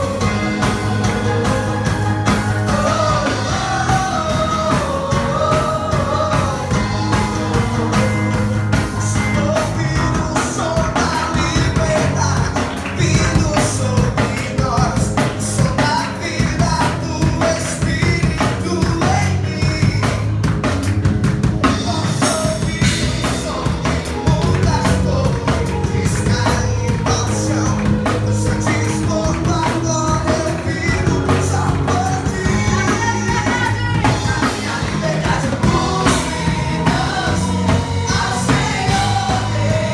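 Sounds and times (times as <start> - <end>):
rock band music with singing: 0.0 - 39.9.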